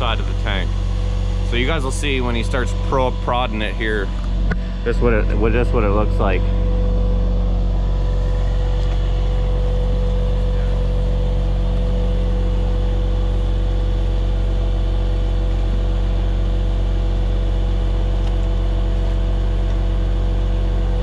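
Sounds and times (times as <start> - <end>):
vacuum pump truck droning: 0.0 - 21.0.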